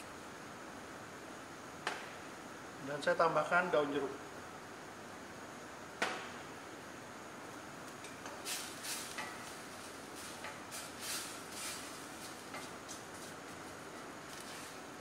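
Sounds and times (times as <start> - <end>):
cooking hiss: 0.0 - 15.0.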